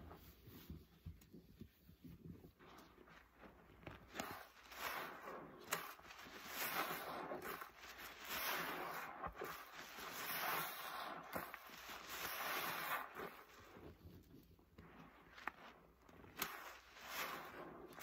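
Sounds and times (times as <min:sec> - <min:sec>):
sponge squelching in soapy water: 0:00.0 - 0:18.0.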